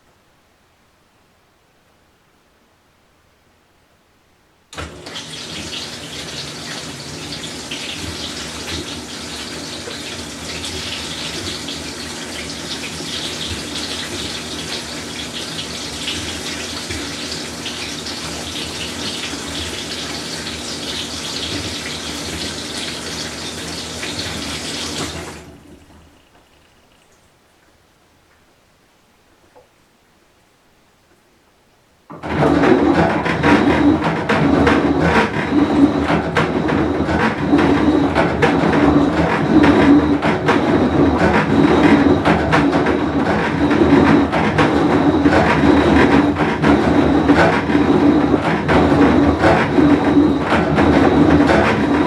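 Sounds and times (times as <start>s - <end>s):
washing machine filling with water: 4.8s - 27.6s, 32.1s - 52.0s.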